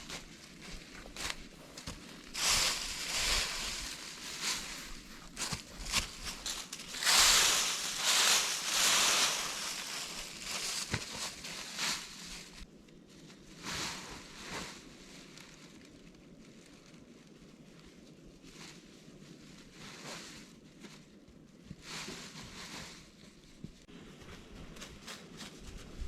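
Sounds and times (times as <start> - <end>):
rustling and crunching: 0.0 - 26.0.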